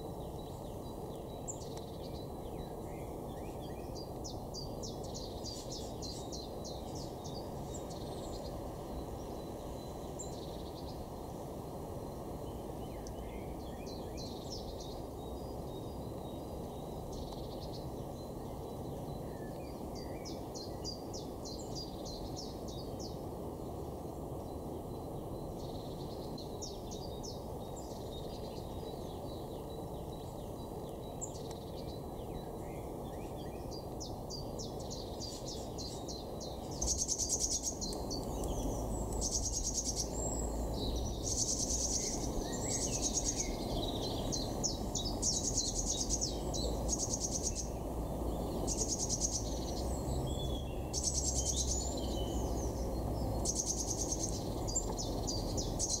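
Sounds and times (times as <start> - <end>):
birds calling with high trills: 0.0 - 56.0
outdoor background noise: 0.0 - 56.0.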